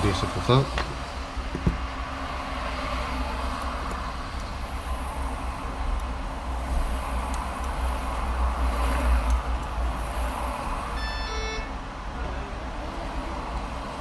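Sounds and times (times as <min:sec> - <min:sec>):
motorway traffic rumble: 0:00.0 - 0:14.0.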